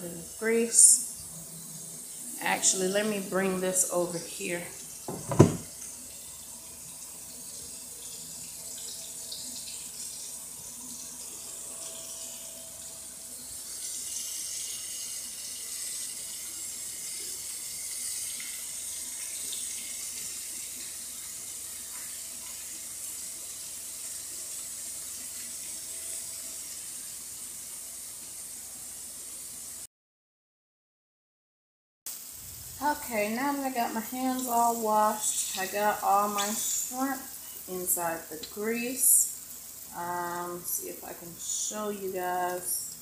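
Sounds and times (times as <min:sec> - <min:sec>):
kitchen tap running: 0:00.0 - 0:29.8, 0:32.2 - 0:43.0
shrimp frying in hot oil: 0:00.0 - 0:29.9, 0:32.1 - 0:43.0.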